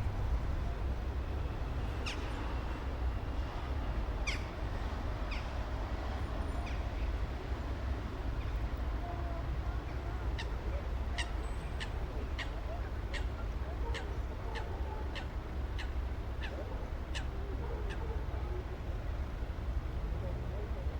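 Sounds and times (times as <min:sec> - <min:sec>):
distant traffic rumble: 0:00.0 - 0:20.9.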